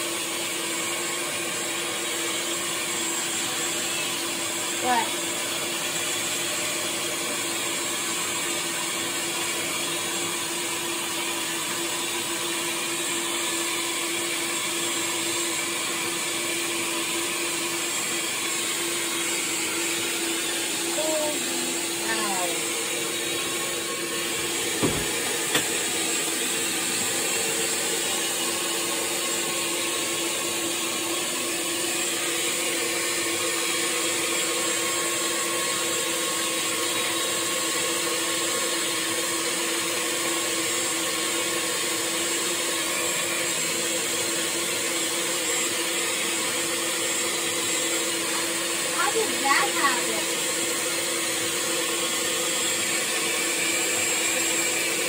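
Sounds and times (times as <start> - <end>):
vacuum motor whining: 0.0 - 55.0.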